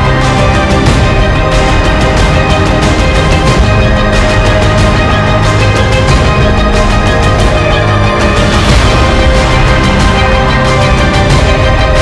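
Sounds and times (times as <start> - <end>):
music with a steady beat: 0.0 - 12.0.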